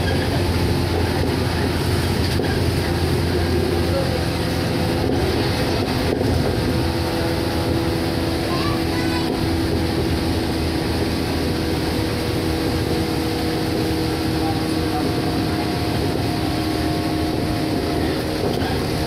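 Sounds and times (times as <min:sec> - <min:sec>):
electric train running hum: 0:00.0 - 0:19.0.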